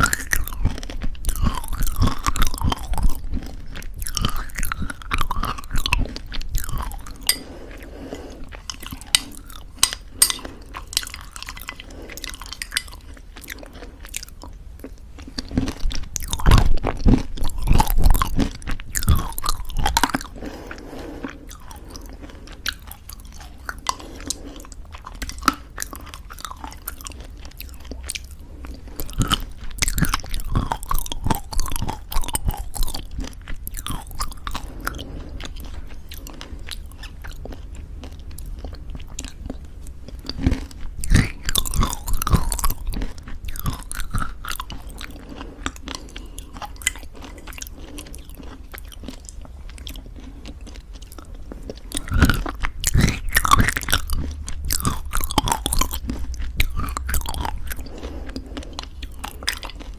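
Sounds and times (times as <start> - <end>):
crunchy chewing of granola: 0.0 - 59.9
wet chewing: 0.0 - 59.9.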